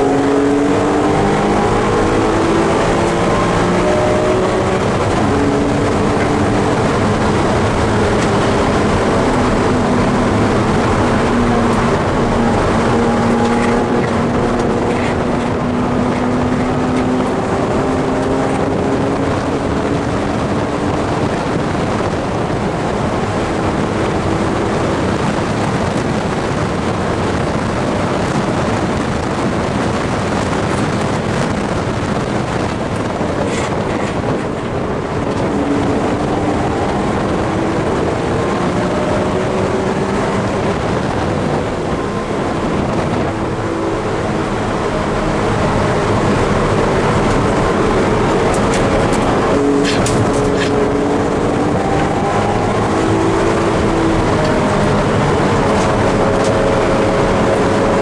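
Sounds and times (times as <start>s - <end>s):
car engine revving: 0.0s - 58.0s
wind and road noise: 0.0s - 58.0s.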